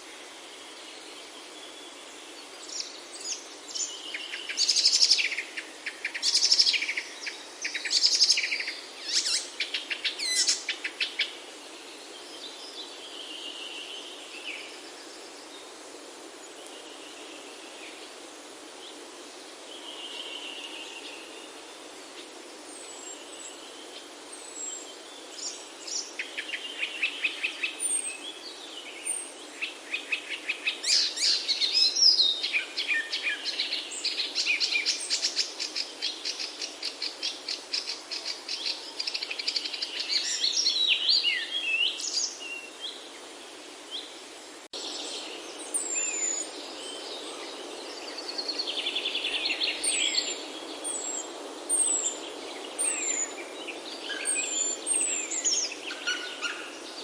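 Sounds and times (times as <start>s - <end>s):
outdoor ambient hiss: 0.0s - 57.0s
songbirds singing: 0.0s - 57.0s.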